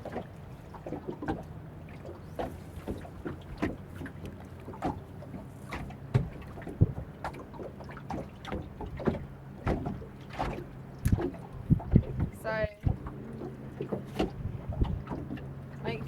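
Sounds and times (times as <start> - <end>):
water knocking against boat hull: 0.0 - 16.0.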